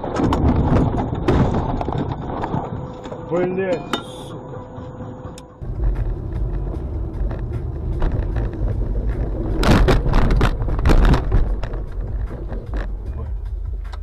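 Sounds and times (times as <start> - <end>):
car rumble inside moving car: 0.0 - 14.0.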